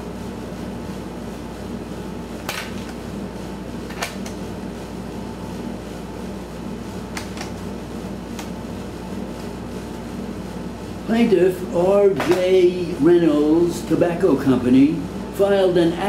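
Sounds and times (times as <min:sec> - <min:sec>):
air conditioning hum: 0:00.0 - 0:16.0.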